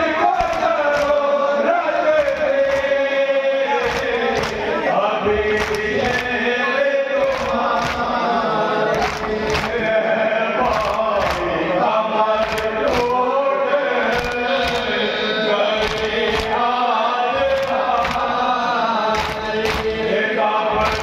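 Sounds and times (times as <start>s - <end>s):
men chanting in unison: 0.0s - 21.0s
person reciting into a microphone: 0.0s - 21.0s.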